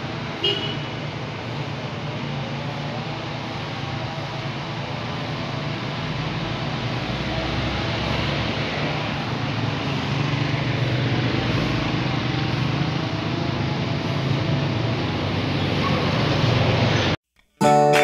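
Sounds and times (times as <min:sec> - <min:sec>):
cars passing: 0:00.0 - 0:17.2
motor tricycle passing: 0:00.0 - 0:17.2
road noise: 0:00.0 - 0:17.2
motorcycle passing: 0:00.1 - 0:17.2.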